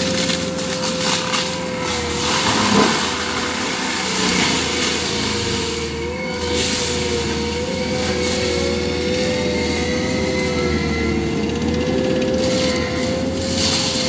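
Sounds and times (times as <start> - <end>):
forestry mulcher grinding brush: 0.0 - 14.0.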